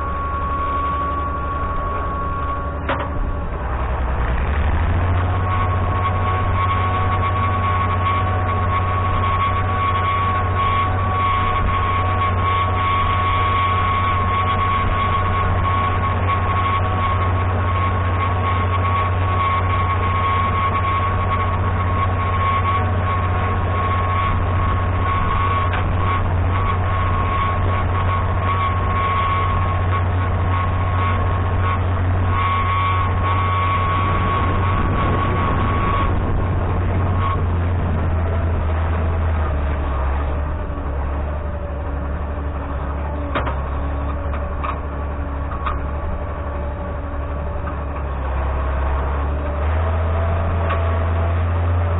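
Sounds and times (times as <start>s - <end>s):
diesel engine running: 0.0s - 51.9s
high whine: 0.0s - 51.9s.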